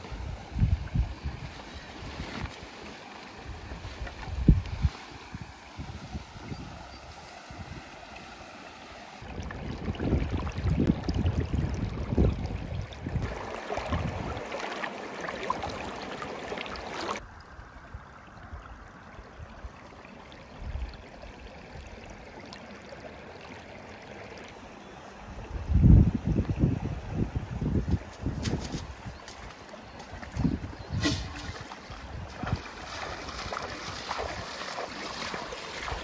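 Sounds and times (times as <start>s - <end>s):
water rushing from a pipe: 0.0s - 24.6s, 29.8s - 36.0s.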